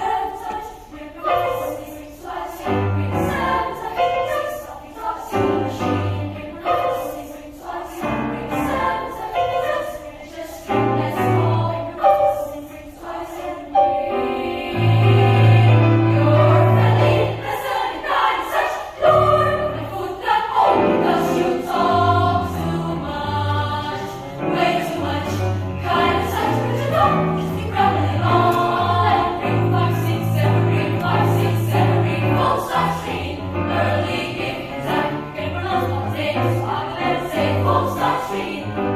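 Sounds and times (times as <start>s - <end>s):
children's choir singing: 0.0s - 38.9s.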